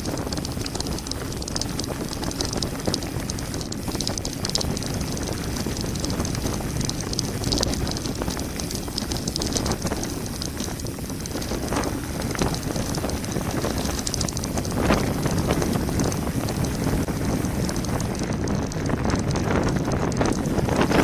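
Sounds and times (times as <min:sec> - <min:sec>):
bike rattling: 0:00.0 - 0:21.0
wind rush on microphone: 0:00.0 - 0:21.0.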